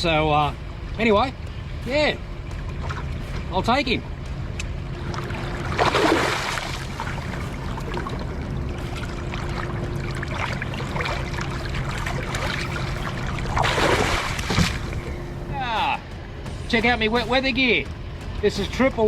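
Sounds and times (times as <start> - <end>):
steady low hum: 0.0 - 19.0
water trickling: 0.1 - 15.8.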